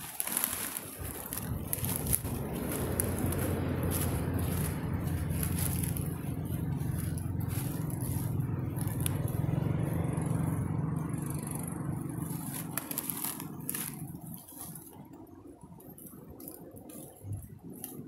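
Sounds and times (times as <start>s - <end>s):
dry crackles and scrapes: 0.0s - 18.0s
low motor-like hum: 0.0s - 18.0s.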